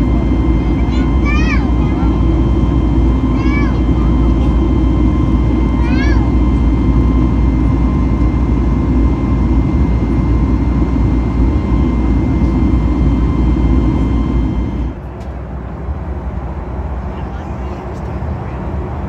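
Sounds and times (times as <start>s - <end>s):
engine and airflow rush: 0.0s - 19.0s
faint steady whine: 0.0s - 19.0s.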